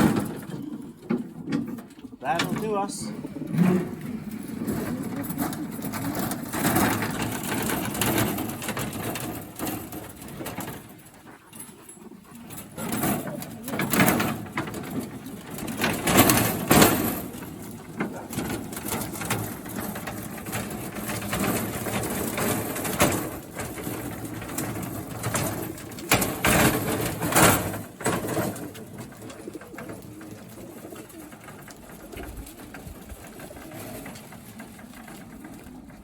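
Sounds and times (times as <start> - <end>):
pigeons cooing: 0.0 - 36.0
pigeons rustling and knocking: 0.0 - 36.0.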